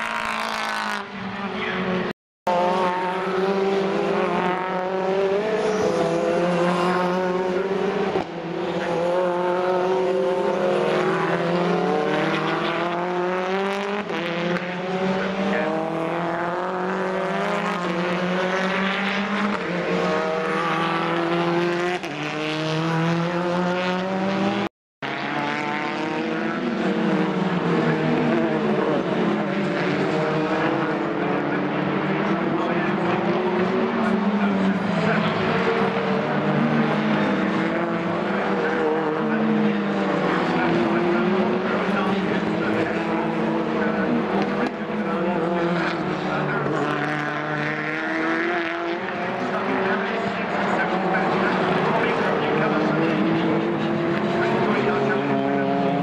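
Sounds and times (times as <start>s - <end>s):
racing car engines at full throttle: 0.0s - 56.0s.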